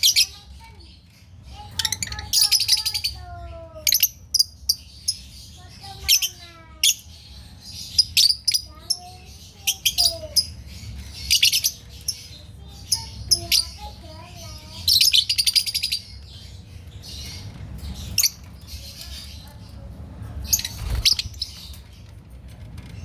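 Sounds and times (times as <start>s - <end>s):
lovebirds chirping: 0.0s - 23.0s.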